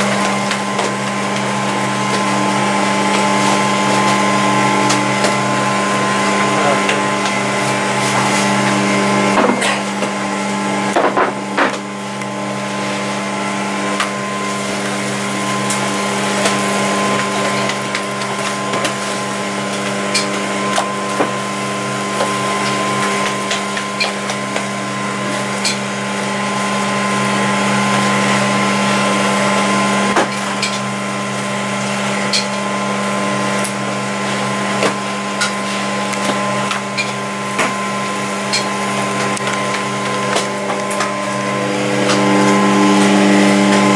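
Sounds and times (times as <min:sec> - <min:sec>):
machinery motor hum: 0:00.0 - 0:43.9.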